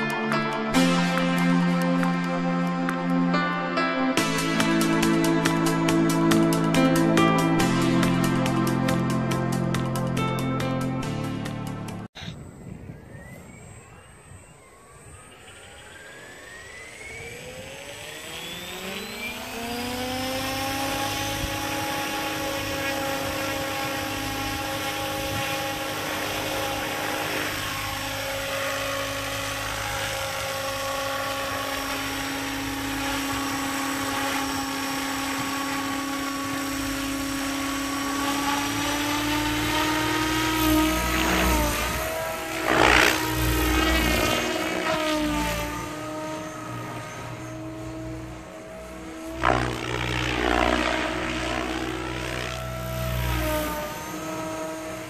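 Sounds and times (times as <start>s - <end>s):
helicopter whoosh: 0.0s - 55.0s
rc helicopter whine: 0.0s - 55.0s.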